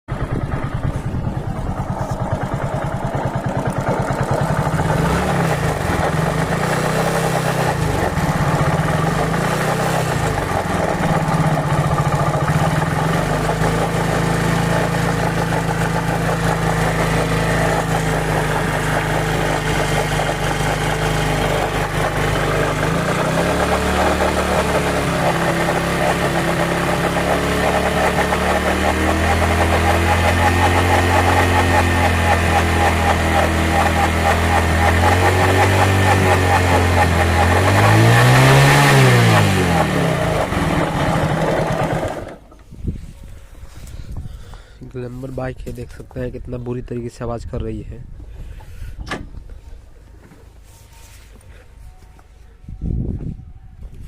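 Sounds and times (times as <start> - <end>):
motorcycle engine running: 0.0 - 44.7
abnormal mechanical engine noise: 0.0 - 54.0.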